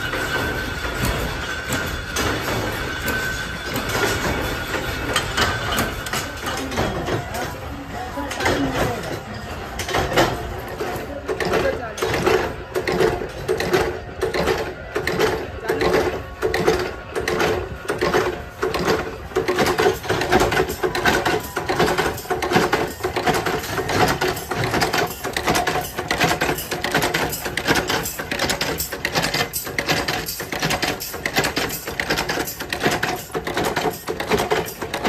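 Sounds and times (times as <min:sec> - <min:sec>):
machinery hum: 0:00.0 - 0:35.0
metallic clattering and clicking: 0:00.0 - 0:35.0.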